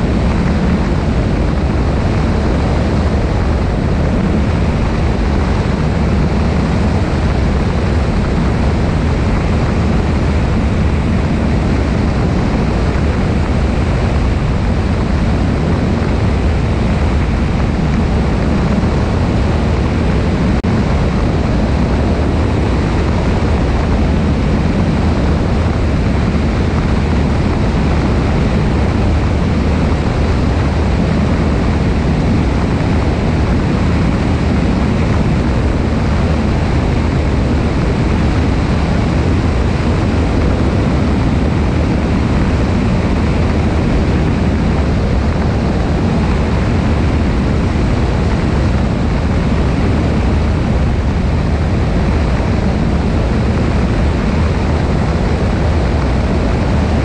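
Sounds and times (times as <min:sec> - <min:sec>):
airplane engine and propeller drone: 0:00.0 - 0:57.0
wind noise: 0:00.0 - 0:57.0.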